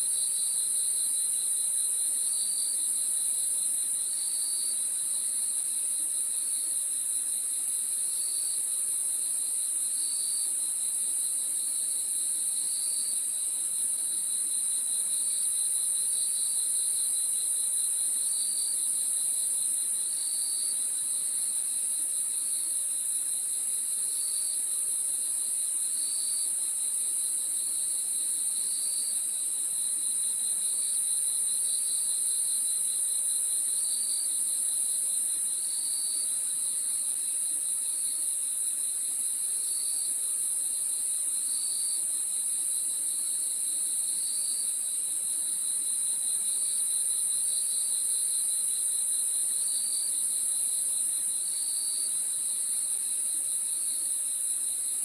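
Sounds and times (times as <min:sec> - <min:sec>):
crickets trilling: 0:00.2 - 0:55.0.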